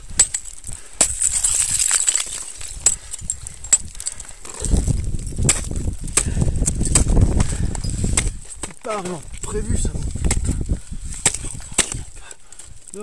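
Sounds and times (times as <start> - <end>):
ice axe striking hard ice: 0.0 - 12.1
wind buffeting microphone: 0.0 - 13.0.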